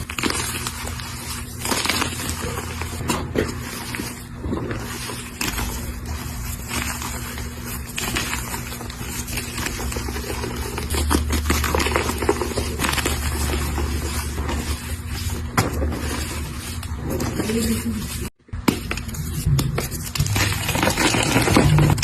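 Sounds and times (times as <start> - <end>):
chalk block crunching: 0.0 - 22.0.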